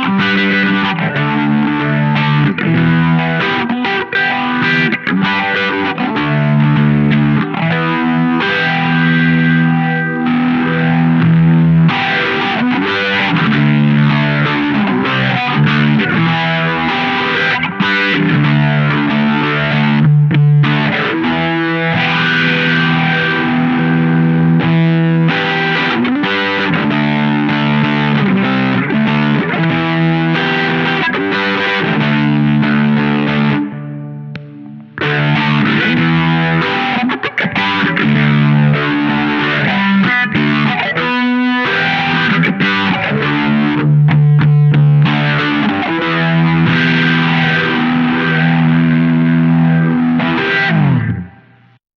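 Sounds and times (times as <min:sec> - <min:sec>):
distorted electric guitar chords: 0:00.0 - 0:51.8.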